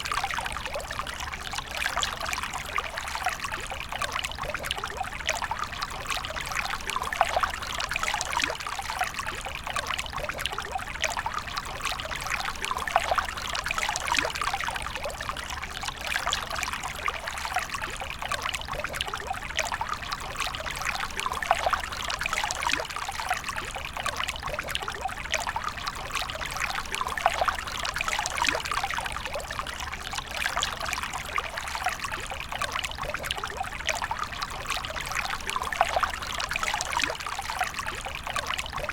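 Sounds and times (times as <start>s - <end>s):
water pouring and trickling: 0.0s - 38.9s.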